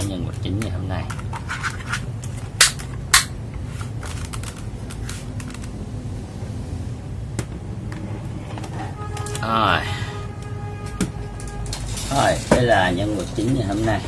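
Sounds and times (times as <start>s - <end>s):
steady low hum: 1.1s - 14.0s.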